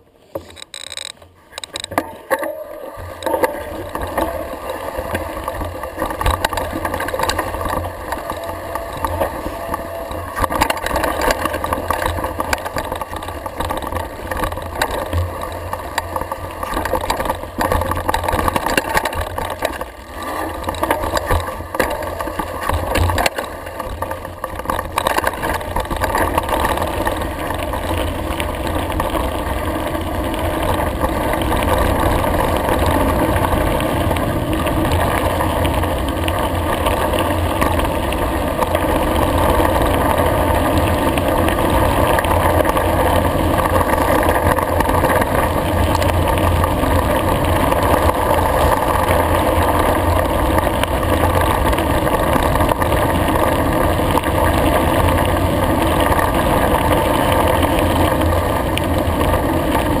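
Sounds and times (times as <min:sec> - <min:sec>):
tyres rolling over gravel: 0:00.0 - 1:00.0
bike rattling and knocking: 0:00.3 - 1:00.0.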